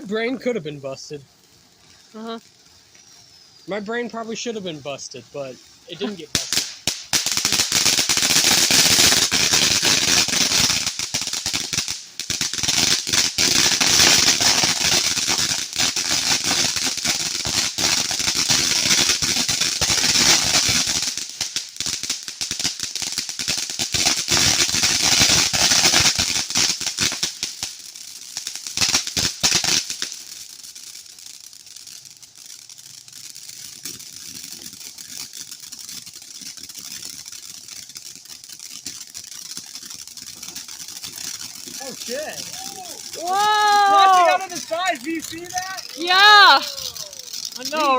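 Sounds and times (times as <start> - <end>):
firework crackling: 0.0 - 47.9.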